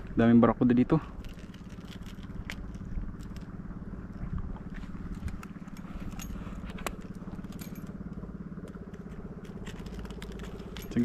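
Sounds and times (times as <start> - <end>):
motor running steadily: 0.0 - 11.0.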